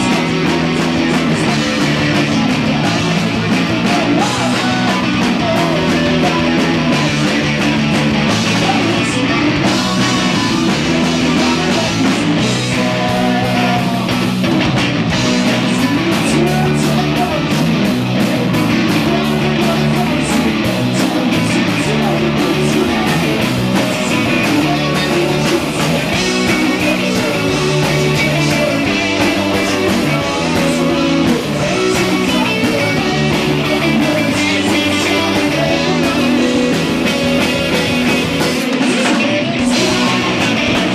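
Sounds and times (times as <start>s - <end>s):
bass: 0.0s - 40.9s
drums: 0.0s - 40.9s
electric guitar: 0.0s - 40.9s.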